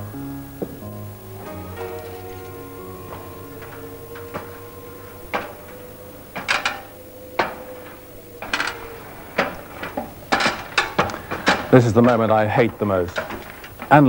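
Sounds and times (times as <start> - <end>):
held music note: 0.0 - 12.8
sharp knocks and clatters: 0.6 - 14.0.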